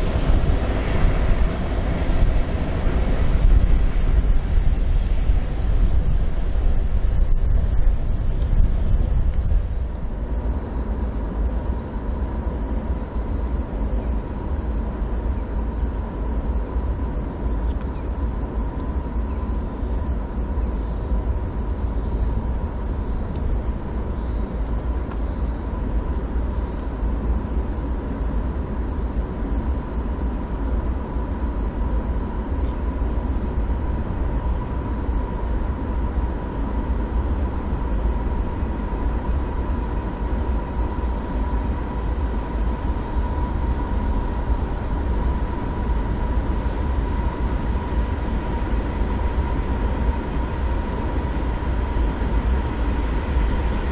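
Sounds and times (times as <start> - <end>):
freight train rumbling on rails: 0.0 - 53.9
steady high-pitched tone: 0.0 - 53.9.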